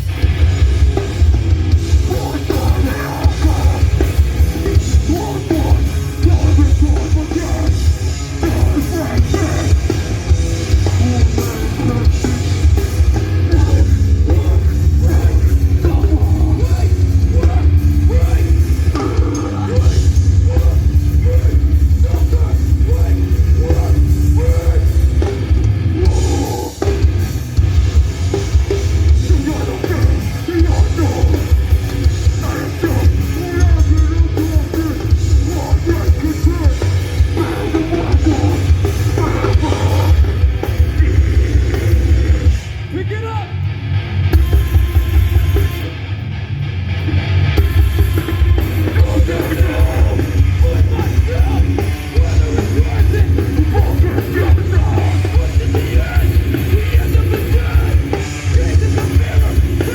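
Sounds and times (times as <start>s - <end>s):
pounding drums: 0.0s - 43.4s, 47.6s - 59.9s
bass guitar: 0.0s - 59.9s
heavy distorted guitars: 0.0s - 59.9s.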